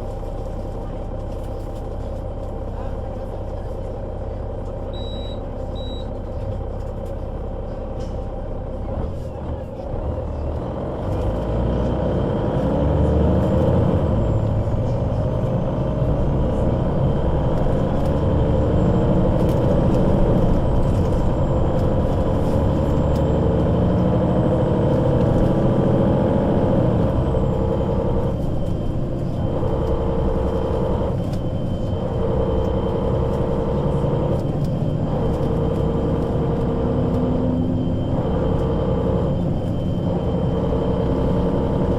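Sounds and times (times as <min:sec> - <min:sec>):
bus diesel engine accelerating: 0:00.0 - 0:41.9.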